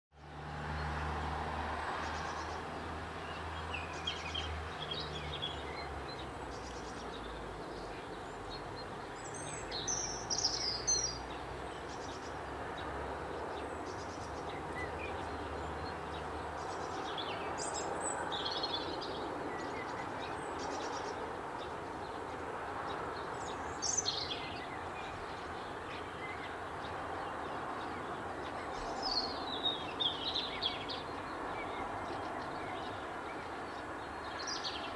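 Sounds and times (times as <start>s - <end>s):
outdoor background noise: 0.1s - 34.9s.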